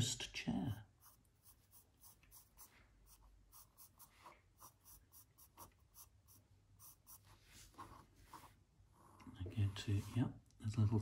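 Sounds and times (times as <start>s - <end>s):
pencil and pen scratching paper: 0.7s - 10.2s.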